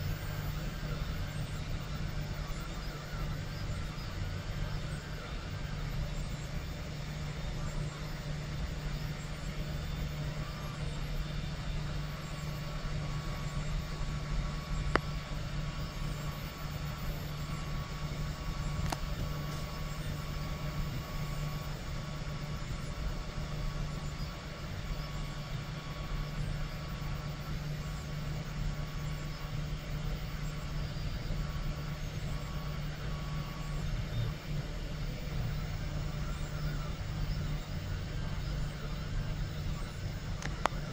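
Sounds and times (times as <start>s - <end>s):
faint high whine: 0.0s - 40.9s
printer motors and fan humming: 0.0s - 40.9s.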